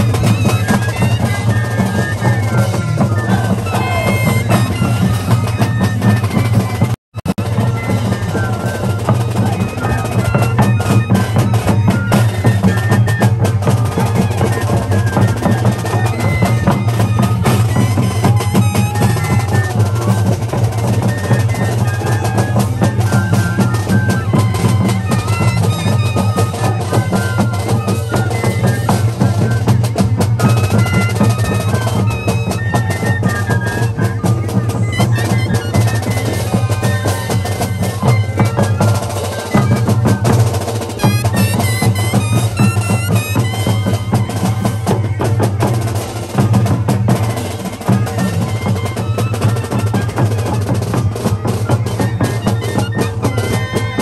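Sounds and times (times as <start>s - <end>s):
bass drum and snare drum: 0.0s - 54.0s
flutes playing a melody: 0.0s - 54.0s.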